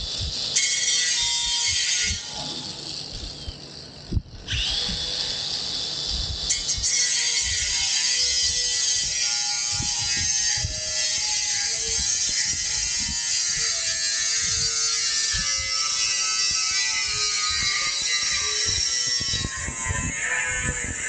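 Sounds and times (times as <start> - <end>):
power cutting tool buzzing: 0.0 - 21.0.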